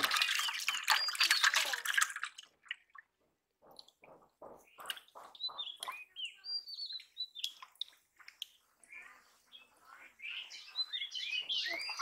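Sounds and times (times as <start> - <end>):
birds chirping: 0.1 - 1.8, 3.6 - 12.0.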